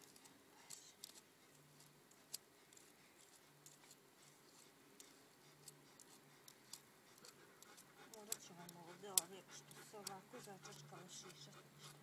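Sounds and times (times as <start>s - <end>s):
comb clicking through fur: 0.0s - 12.0s.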